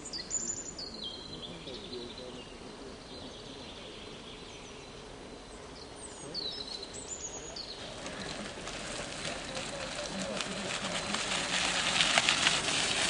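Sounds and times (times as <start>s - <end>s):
bird chirping: 0.0s - 11.2s
background hiss: 0.0s - 13.0s.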